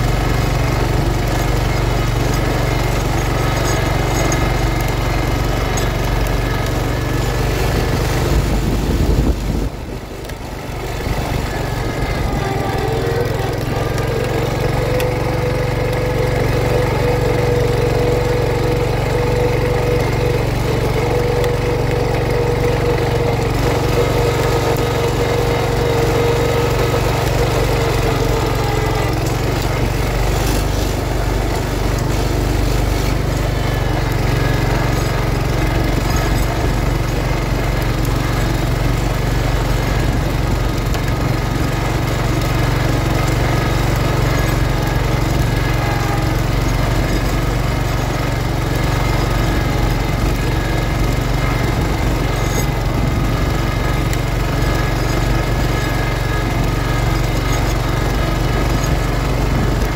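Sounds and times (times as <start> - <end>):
garden tractor engine running: 0.0 - 59.9
steady whine: 0.0 - 59.9.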